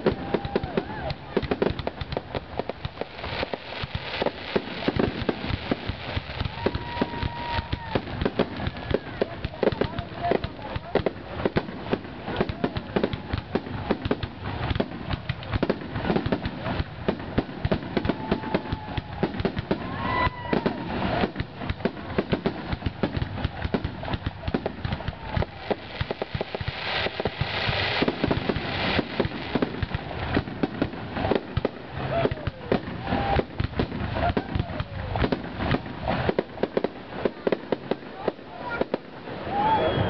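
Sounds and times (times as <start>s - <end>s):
firework shells bursting: 0.0s - 38.8s
fireworks crackling: 0.0s - 40.0s.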